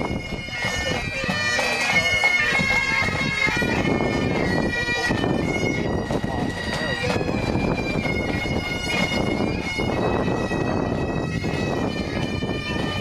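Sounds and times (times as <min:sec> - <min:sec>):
bagpipes playing a tune: 0:00.0 - 0:13.0.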